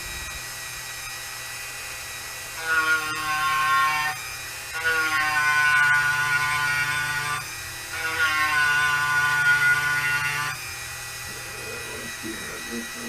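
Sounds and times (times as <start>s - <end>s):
power grinding tool motor: 0.0s - 13.0s
bit grinding into wood: 2.0s - 13.0s.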